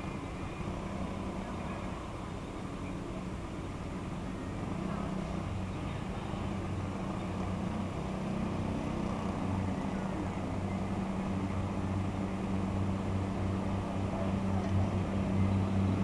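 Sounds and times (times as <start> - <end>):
diesel train engine hum: 0.0 - 16.0.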